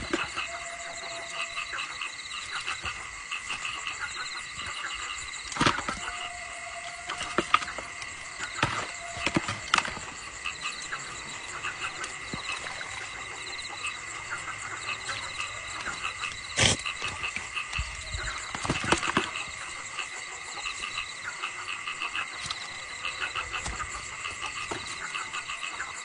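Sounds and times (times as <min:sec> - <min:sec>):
frogs croaking in chorus: 0:00.0 - 0:26.0
high insect drone: 0:00.0 - 0:26.0.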